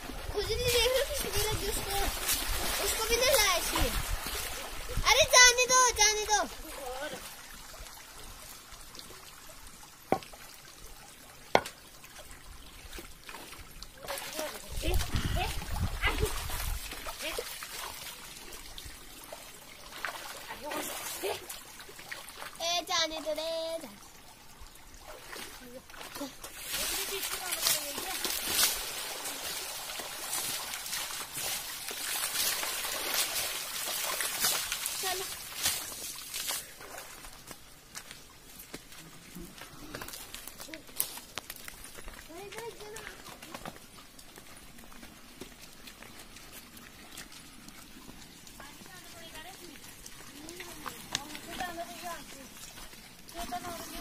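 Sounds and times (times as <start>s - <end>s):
sharp water splashes: 0.0s - 38.8s, 40.2s - 54.0s
water trickling and pouring: 0.0s - 54.0s.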